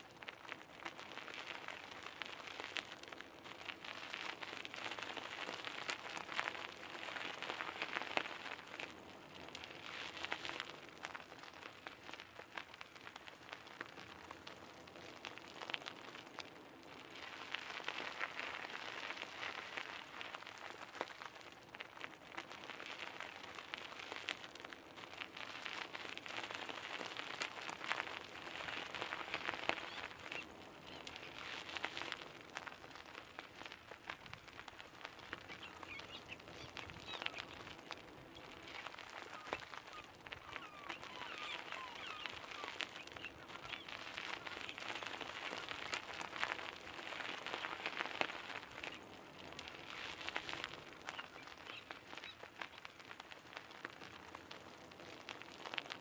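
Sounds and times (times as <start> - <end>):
bicycle tyres rolling on gravel: 0.0 - 56.0.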